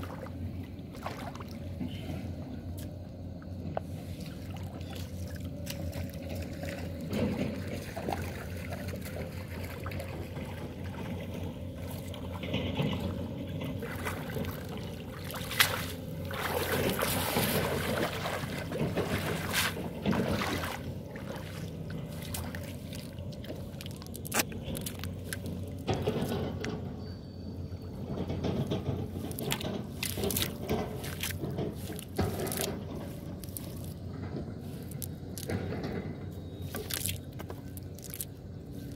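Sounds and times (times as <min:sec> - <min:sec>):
river water sloshing and splashing: 0:00.0 - 0:27.0, 0:28.0 - 0:38.9
steady low hum: 0:00.0 - 0:38.9.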